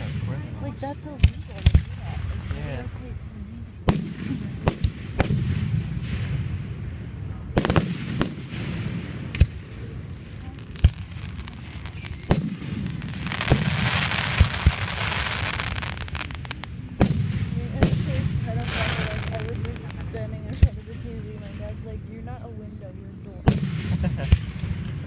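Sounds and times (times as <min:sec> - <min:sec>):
fireworks booming: 0:00.0 - 0:25.0
fireworks crackling: 0:00.0 - 0:25.0.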